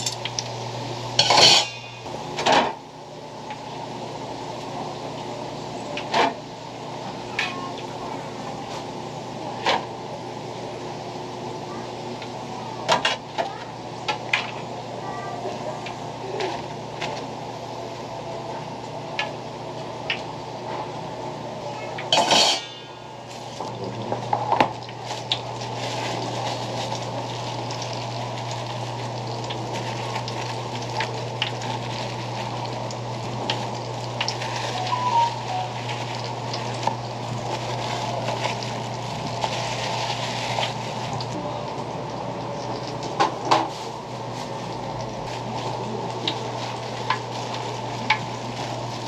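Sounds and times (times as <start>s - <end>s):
deep-frying oil hissing: 0.0s - 49.0s.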